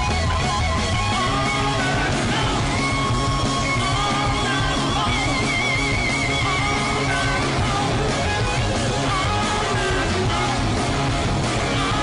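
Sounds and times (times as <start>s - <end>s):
hard rock band playing: 0.0s - 12.0s
lead guitar long wavering notes: 0.0s - 12.0s.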